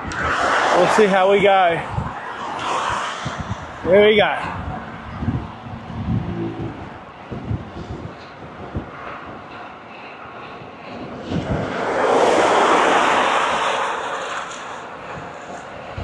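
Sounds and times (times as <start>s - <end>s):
vehicle passing at speed: 0.0s - 7.8s, 10.8s - 16.0s
wind buffeting microphone: 0.0s - 16.0s.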